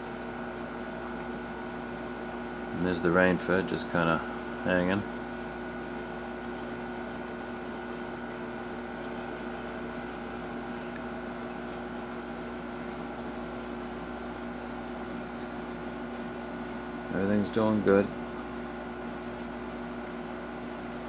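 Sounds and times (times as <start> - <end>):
aquarium pump motor hum: 0.0 - 21.0.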